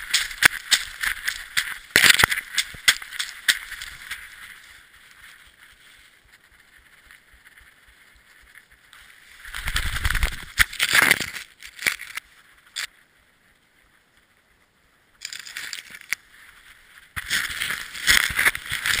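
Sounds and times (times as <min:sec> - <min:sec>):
snow crunching against camera: 0:00.0 - 0:13.1, 0:15.2 - 0:19.0.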